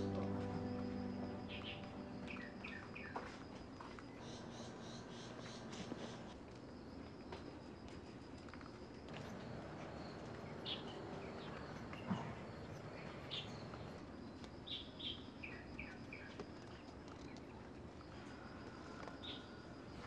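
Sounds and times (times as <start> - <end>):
small birds chirping: 0.0 - 6.4, 9.1 - 19.9
faint outdoor background: 0.0 - 20.0.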